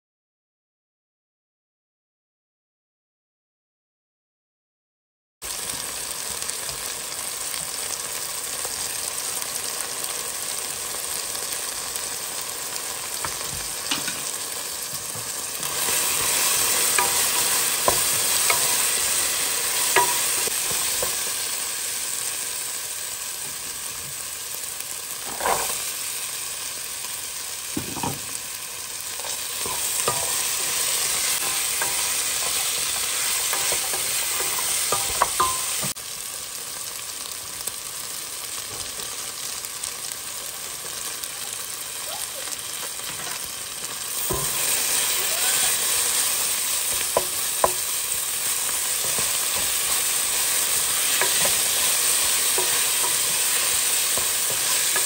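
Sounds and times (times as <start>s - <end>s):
chicken and onion sizzling: 5.4s - 55.0s.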